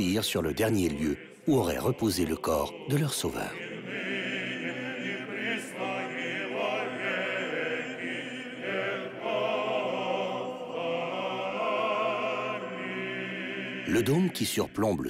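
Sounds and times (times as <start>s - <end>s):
choir singing slow chant: 0.0s - 15.0s.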